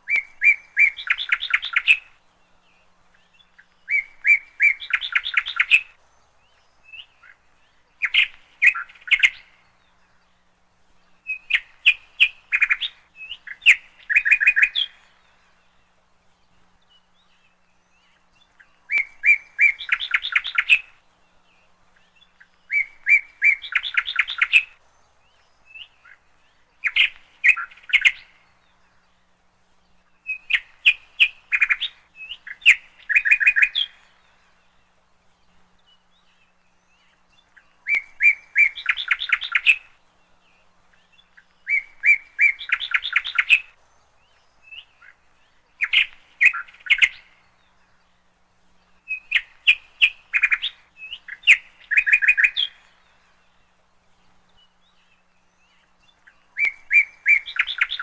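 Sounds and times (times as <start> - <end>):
songbird singing with trill: 0.0 - 58.0.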